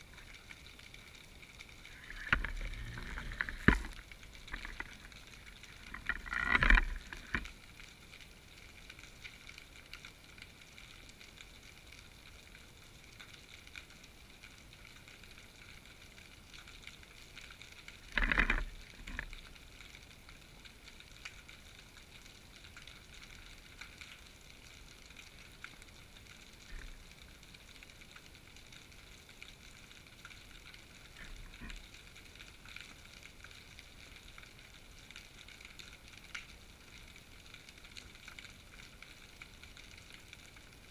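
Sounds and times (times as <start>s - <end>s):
underwater hiss with crackling ticks: 0.0s - 40.9s.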